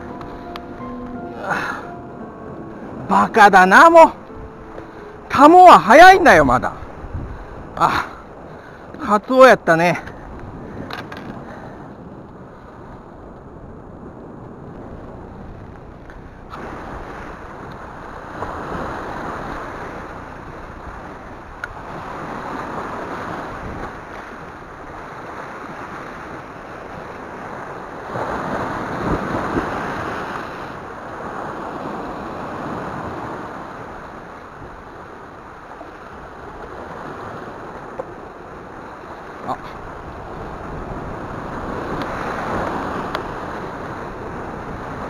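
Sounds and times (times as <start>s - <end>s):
surf washing over rocky shore: 0.0s - 45.0s
wind rumble on microphone: 6.4s - 9.0s, 10.0s - 45.0s.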